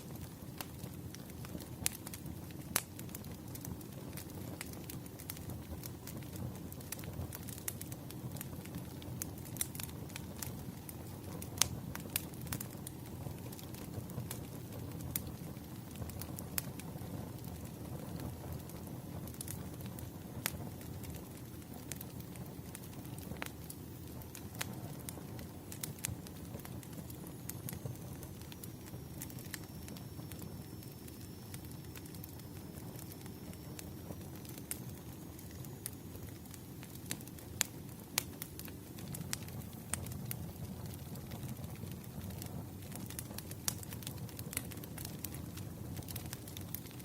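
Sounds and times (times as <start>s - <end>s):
firewood crackling and popping: 0.0s - 47.0s
low rumble of flames: 0.0s - 47.0s.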